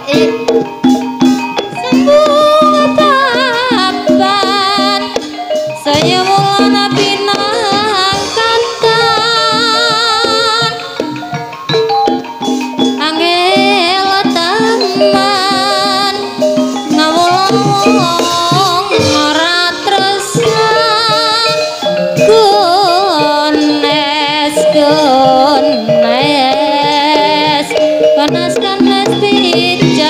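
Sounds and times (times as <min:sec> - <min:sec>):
person singing with vibrato: 0:00.0 - 0:00.6, 0:01.7 - 0:11.6, 0:12.8 - 0:30.0
ensemble held melodic notes: 0:00.0 - 0:30.0
percussion: 0:00.0 - 0:30.0.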